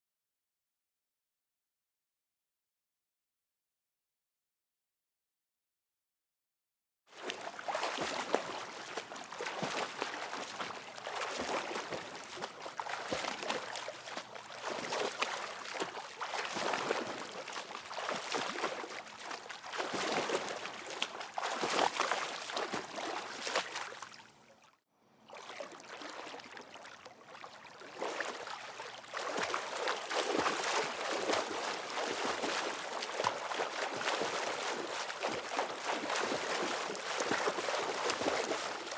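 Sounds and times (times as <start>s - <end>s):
water splashing from swimming: 7.1s - 24.7s, 25.3s - 38.9s.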